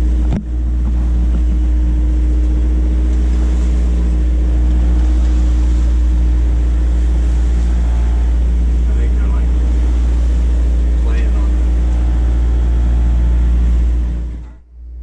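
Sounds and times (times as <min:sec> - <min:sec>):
boat engine droning: 0:00.0 - 0:15.0
steady hum: 0:00.0 - 0:15.0.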